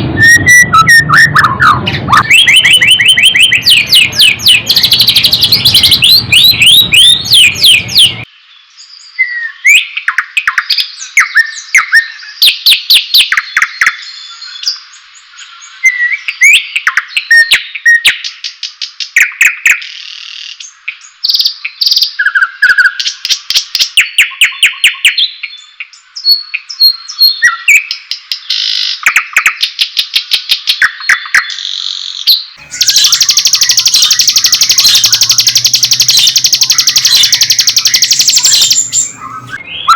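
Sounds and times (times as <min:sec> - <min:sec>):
bird song with whistles and trills: 0:00.0 - 0:39.9.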